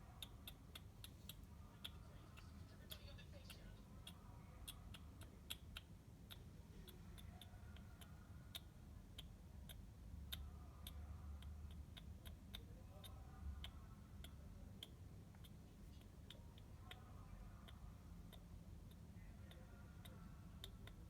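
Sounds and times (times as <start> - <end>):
faint irregular clicking: 0.1 - 21.0.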